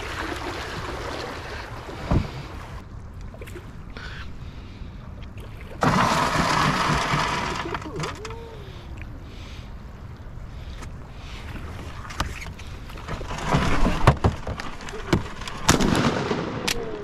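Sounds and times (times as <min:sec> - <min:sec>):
water running along a hull: 0:00.0 - 0:15.8.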